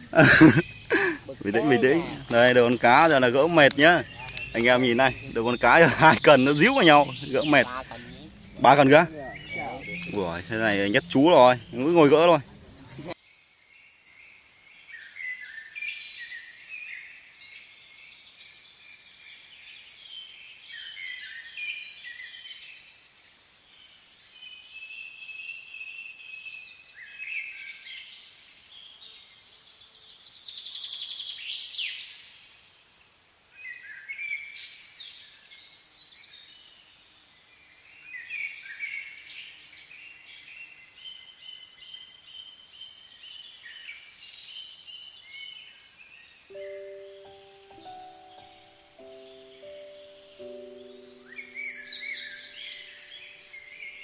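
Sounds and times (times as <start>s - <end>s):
birds singing: 0.0s - 54.0s
faint outdoor background noise: 0.0s - 54.0s.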